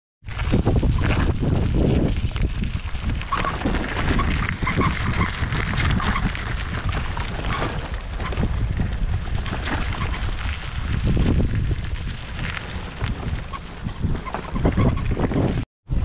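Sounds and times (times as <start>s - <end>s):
bicycle bags and frame clattering: 0.3s - 15.6s
tyres crunching on gravel: 0.3s - 15.6s
wind on microphone: 0.3s - 16.0s.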